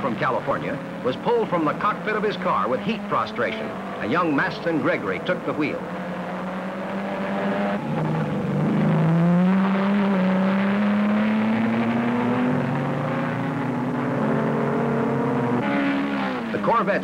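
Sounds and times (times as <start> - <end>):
racing car engines accelerating: 0.0 - 17.0.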